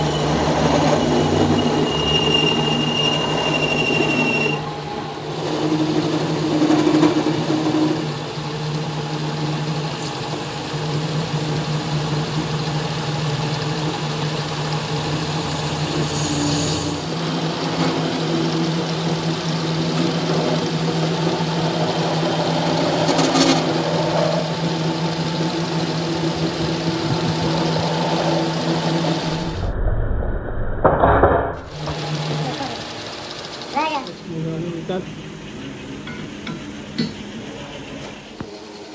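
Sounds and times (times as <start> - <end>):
harsh high-pitched machine noise: 0.0 - 29.7, 31.6 - 38.9
machine humming: 0.0 - 29.7, 31.6 - 38.9.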